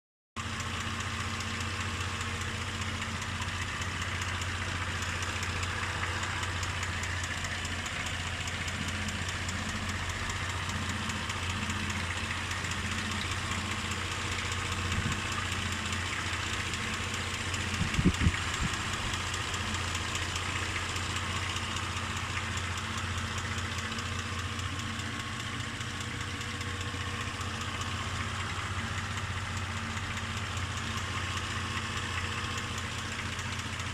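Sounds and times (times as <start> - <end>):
car engine idling with knock: 0.4 - 33.9.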